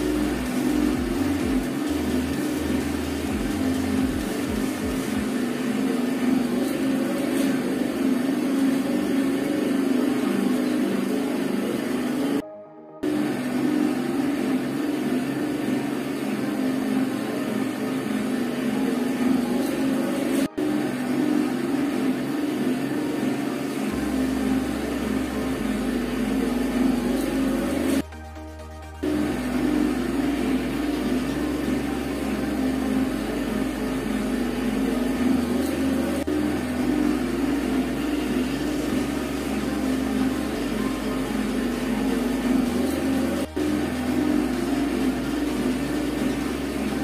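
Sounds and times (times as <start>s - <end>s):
cotton candy machine whirring: 0.0s - 12.4s, 13.0s - 47.0s.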